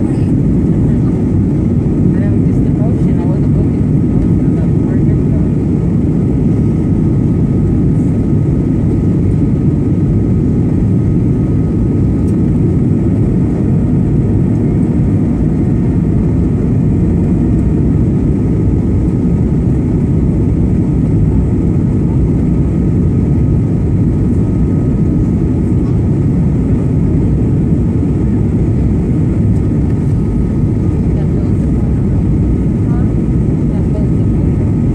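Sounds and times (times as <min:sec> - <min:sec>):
airplane cabin engine roar: 0:00.0 - 0:34.9.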